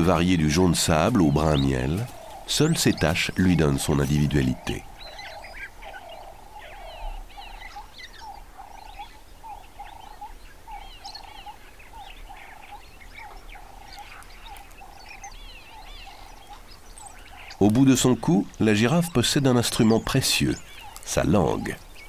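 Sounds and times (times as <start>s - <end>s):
bird chirps and trills: 0.0s - 22.0s.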